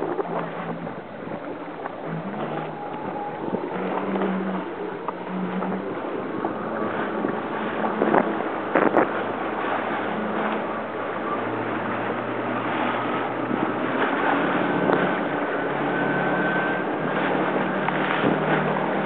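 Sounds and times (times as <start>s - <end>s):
jet ski engine running: 0.0s - 19.0s
wind and water rushing: 0.0s - 19.0s.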